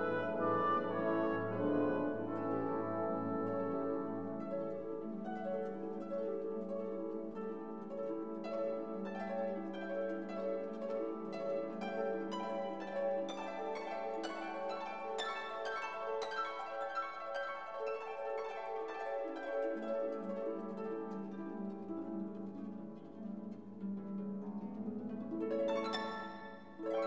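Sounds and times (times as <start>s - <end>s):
plucked harp-like string music: 0.0s - 27.0s.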